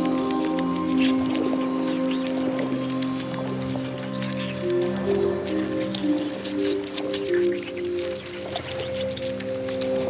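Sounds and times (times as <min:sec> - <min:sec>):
calm ambient music: 0:00.0 - 0:10.0
light dripping patter: 0:00.0 - 0:10.0.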